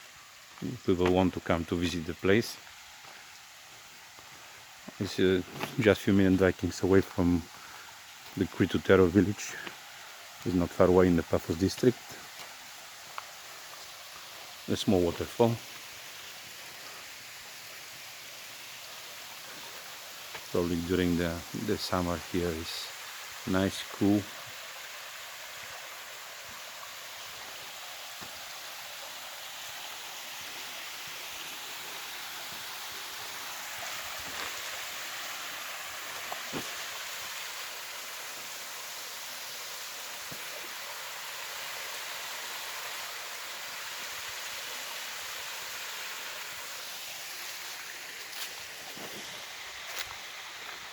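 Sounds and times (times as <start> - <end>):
small waterfall splashing: 0.0 - 50.9.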